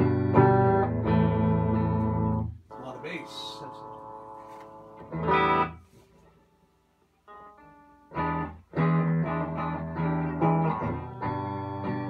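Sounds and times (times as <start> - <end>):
electric guitar strummed chords: 0.0 - 6.4, 7.3 - 12.0.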